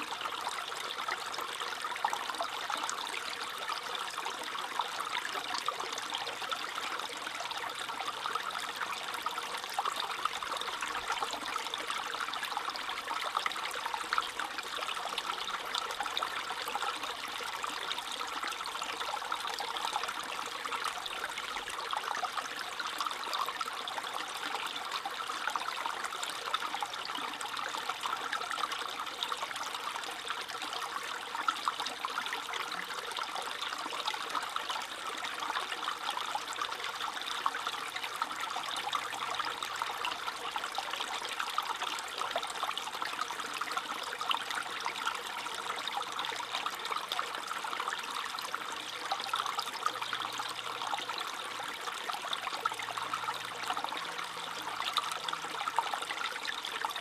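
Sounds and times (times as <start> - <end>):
brook babbling over pebbles: 0.0 - 57.0.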